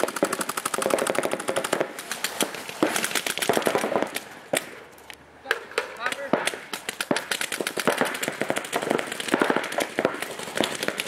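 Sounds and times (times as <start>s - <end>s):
paintball markers firing: 0.0s - 4.8s, 5.5s - 11.0s.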